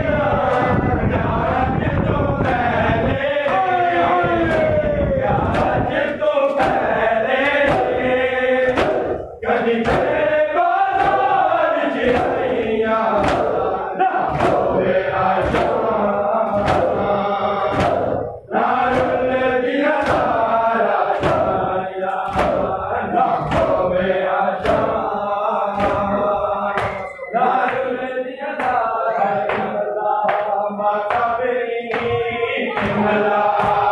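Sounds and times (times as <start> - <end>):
men chanting together: 0.0 - 33.9.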